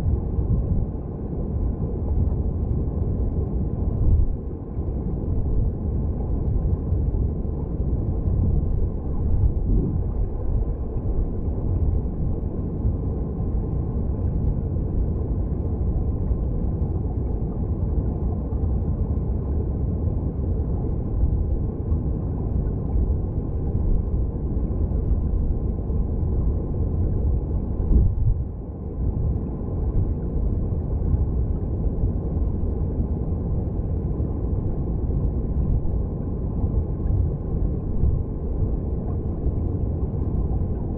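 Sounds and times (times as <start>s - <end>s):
stream flowing heard underwater: 0.0s - 40.9s.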